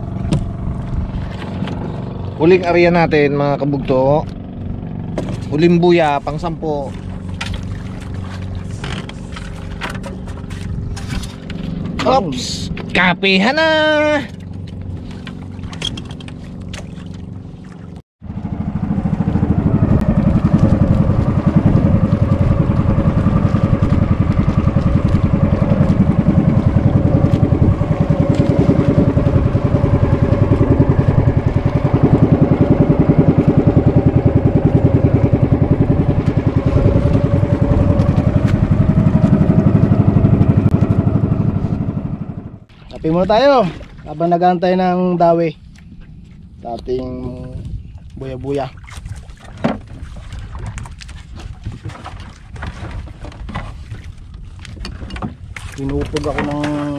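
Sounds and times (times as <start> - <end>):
boat engine running: 0.0 - 56.9.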